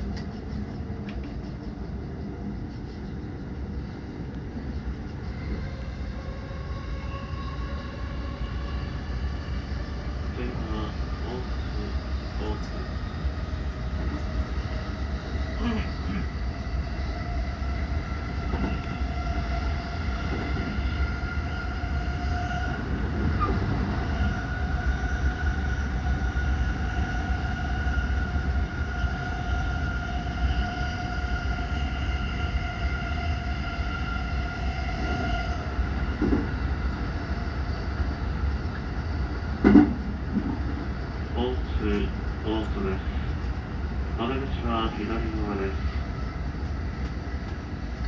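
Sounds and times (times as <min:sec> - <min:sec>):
electric train whine: 0:00.0 - 0:48.0
train low rumble: 0:00.0 - 0:48.0.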